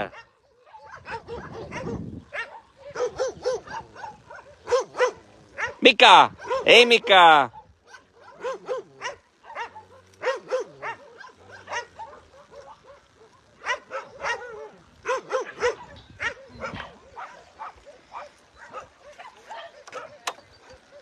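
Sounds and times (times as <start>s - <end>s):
dogs barking: 0.0s - 21.0s.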